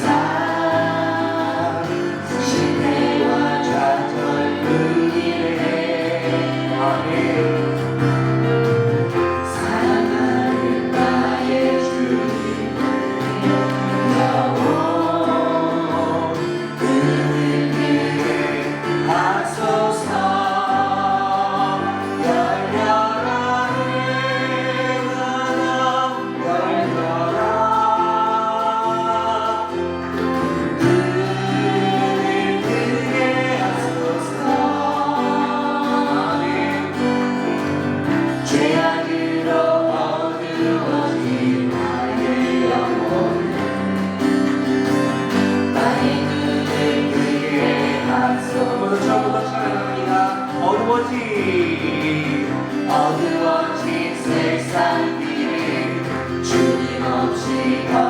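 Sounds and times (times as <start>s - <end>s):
group singing worship song: 0.0s - 58.0s
instrumental accompaniment: 0.0s - 58.0s.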